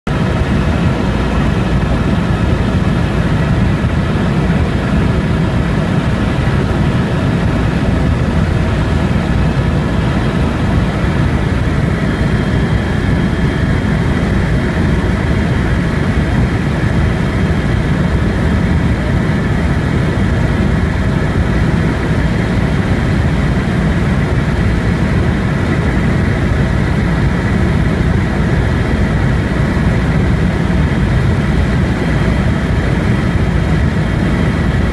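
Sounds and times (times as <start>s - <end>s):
helicopter engine and rotor: 0.1s - 34.9s.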